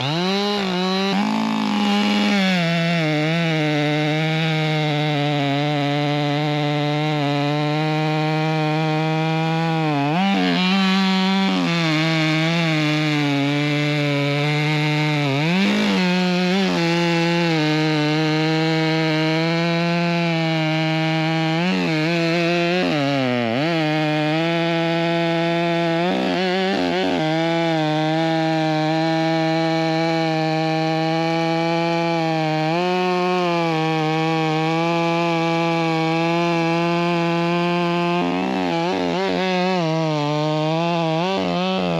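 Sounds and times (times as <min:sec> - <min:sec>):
chainsaw cutting at high speed: 0:00.0 - 0:41.9.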